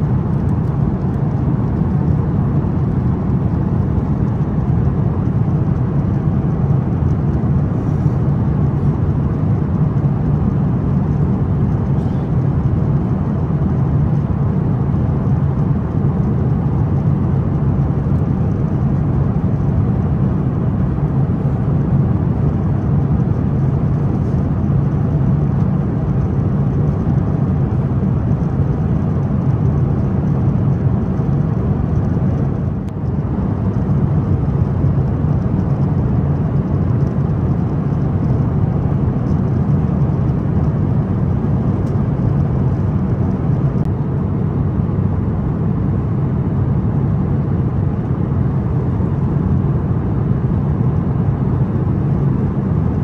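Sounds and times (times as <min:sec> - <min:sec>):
airplane cabin air rush and engine drone: 0:00.0 - 0:53.0.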